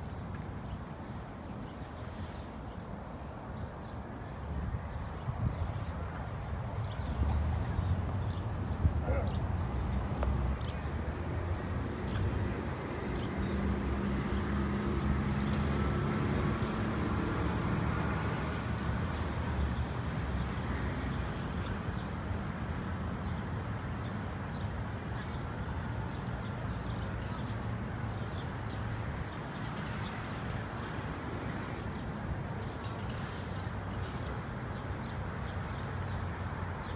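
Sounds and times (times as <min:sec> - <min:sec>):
city traffic rumble: 0:00.0 - 0:36.9.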